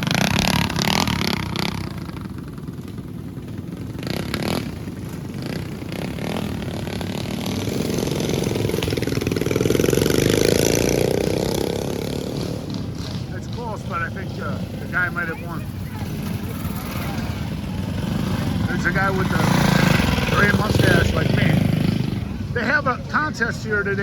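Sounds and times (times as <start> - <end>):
mini bike engines racing past: 0.0 - 24.0.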